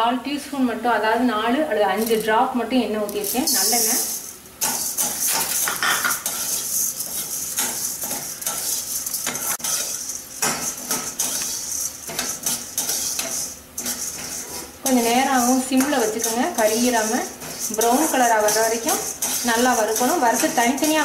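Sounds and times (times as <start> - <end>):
light sizzle: 1.6 - 21.0
metal spatula scraping a pan: 3.1 - 21.0.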